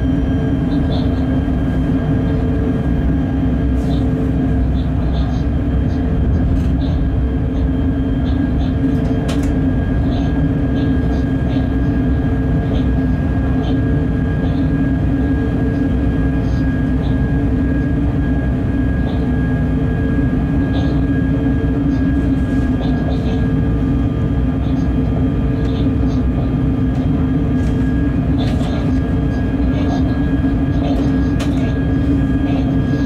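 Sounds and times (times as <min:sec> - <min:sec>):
steady whine: 0:00.0 - 0:33.0
train locomotive rumble: 0:00.0 - 0:33.0.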